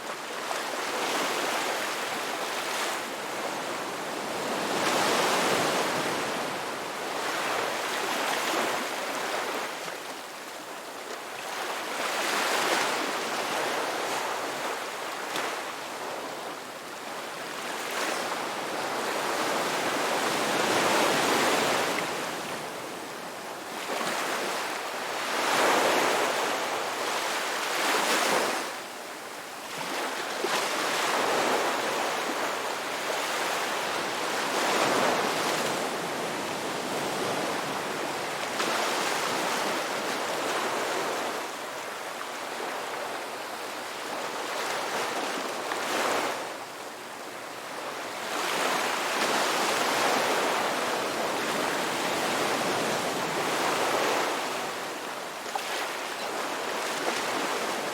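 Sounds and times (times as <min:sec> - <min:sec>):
ocean waves breaking on shore: 0:00.0 - 0:10.3, 0:11.4 - 0:28.8, 0:29.6 - 0:57.9.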